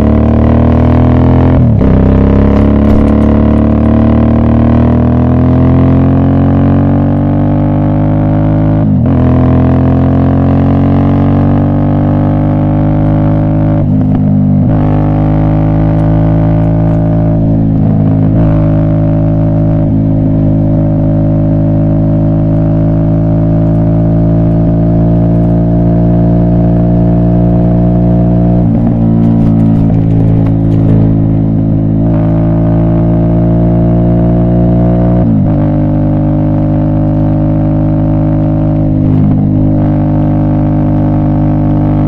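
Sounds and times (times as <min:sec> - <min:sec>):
motorcycle engine droning: 0:00.0 - 0:42.0.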